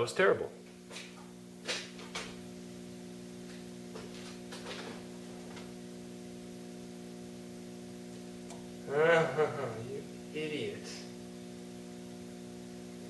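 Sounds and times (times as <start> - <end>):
lathe electrical hum: 0.0 - 13.0.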